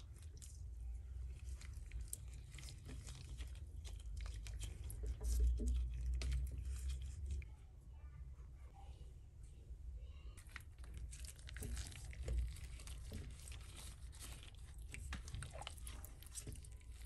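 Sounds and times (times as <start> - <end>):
wet squelches: 0.0 - 7.3, 10.4 - 17.0
small clicks and crackles: 0.0 - 7.5, 10.4 - 17.0.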